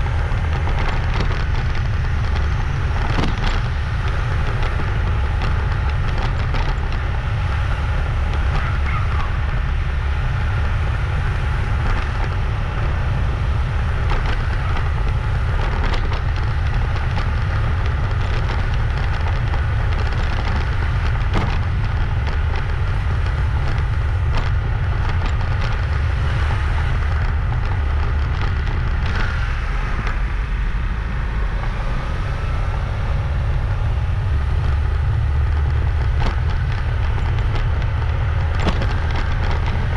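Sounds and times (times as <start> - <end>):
crackles and knocks from riding: 0.0 - 39.9
wind buffeting microphone: 0.0 - 39.9.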